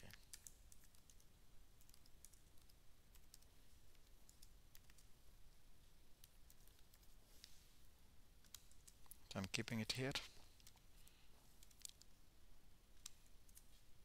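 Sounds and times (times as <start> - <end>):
faint keyboard typing: 0.0 - 7.7, 8.4 - 12.3, 12.9 - 14.0.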